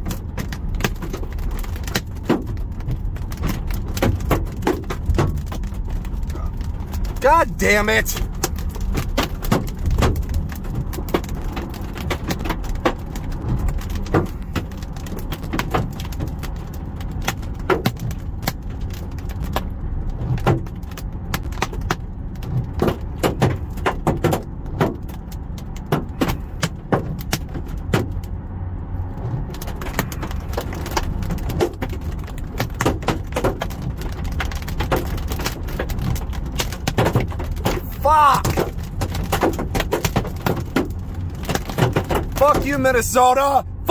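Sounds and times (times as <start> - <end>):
hailstones hitting car metal: 0.0 - 28.3, 29.4 - 43.9
low rumble of storm: 0.0 - 43.9.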